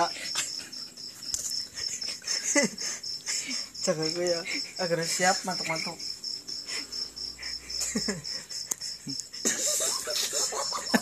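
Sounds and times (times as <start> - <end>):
breathy laughter and snickering: 0.0 - 11.0
cricket chirping: 0.0 - 11.0.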